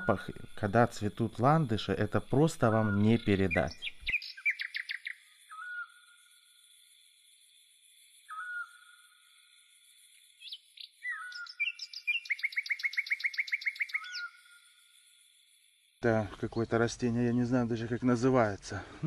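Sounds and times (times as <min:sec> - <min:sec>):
songbirds singing: 0:00.0 - 0:18.8.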